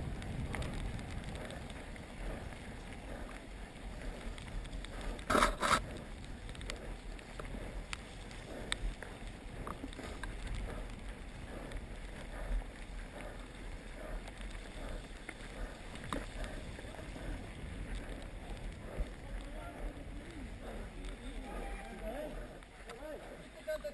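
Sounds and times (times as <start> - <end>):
bike clicks and rattles: 0.0 - 23.9
wind buffeting microphone: 0.0 - 23.9.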